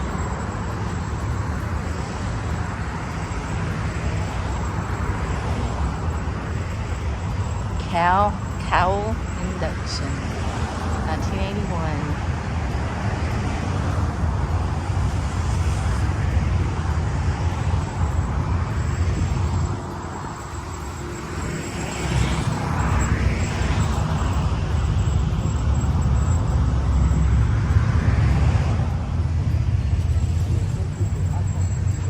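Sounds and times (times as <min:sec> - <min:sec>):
low rumble of traffic: 0:00.0 - 0:32.0.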